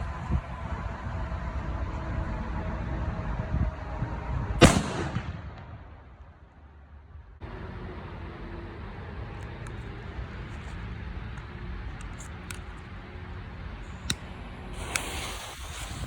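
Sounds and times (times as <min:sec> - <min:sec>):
wind rumbling on microphone: 0:00.0 - 0:06.4, 0:08.5 - 0:16.0.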